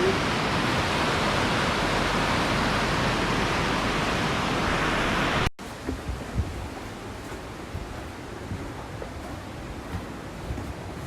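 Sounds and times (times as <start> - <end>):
waterfall rushing: 0.0 - 11.0
wind rustling on microphone: 0.0 - 11.0.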